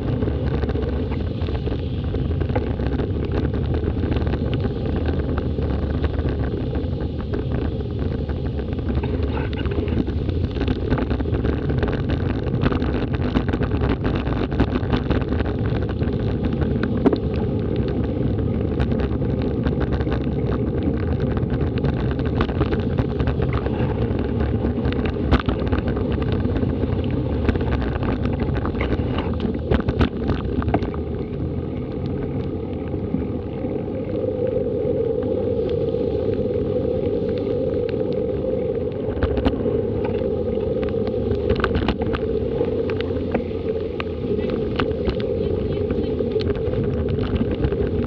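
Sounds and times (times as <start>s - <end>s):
rushing wind: 0.0s - 48.0s
wheels running through floodwater: 0.0s - 48.0s.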